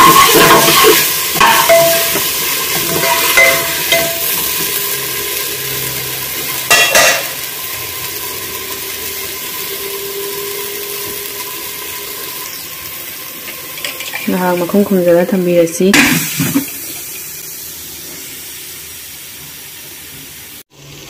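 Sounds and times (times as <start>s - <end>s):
vegetables sizzling in a pot: 0.0s - 21.0s.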